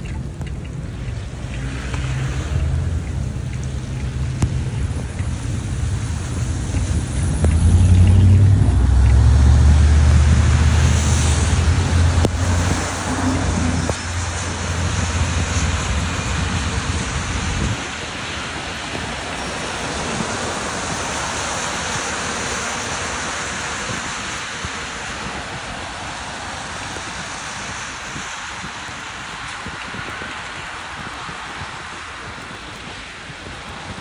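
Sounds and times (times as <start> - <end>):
traffic hissing on wet road: 0.0 - 34.0
wind buffeting microphone: 0.0 - 34.0.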